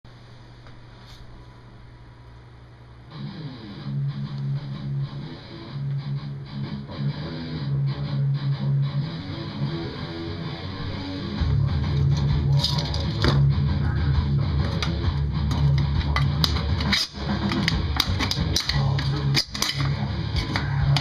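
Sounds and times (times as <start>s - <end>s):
low steady hum: 0.1s - 21.0s
electric guitar and bass music: 3.0s - 21.0s.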